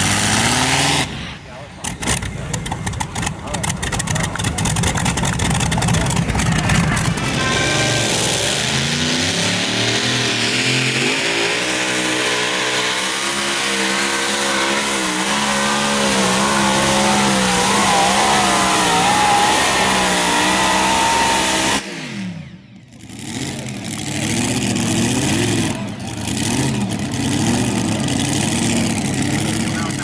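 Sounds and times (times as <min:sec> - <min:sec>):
tractor engine revving: 0:00.0 - 0:30.0.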